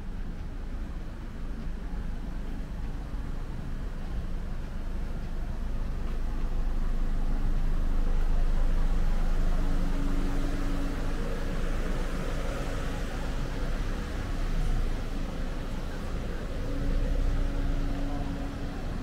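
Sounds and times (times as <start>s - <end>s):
low city street rumble: 0.0s - 19.0s.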